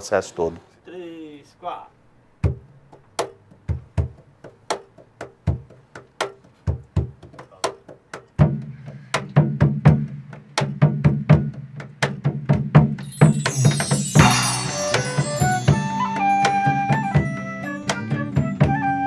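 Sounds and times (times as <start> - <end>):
stick-beaten skin drum: 2.4 - 18.8.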